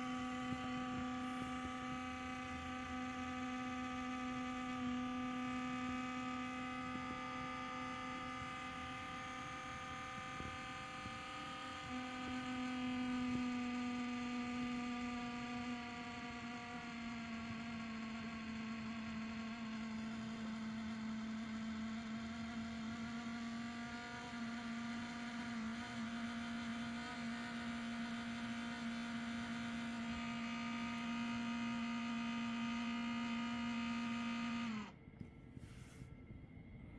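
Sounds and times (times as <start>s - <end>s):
laptop humming whine: 0.0s - 36.9s.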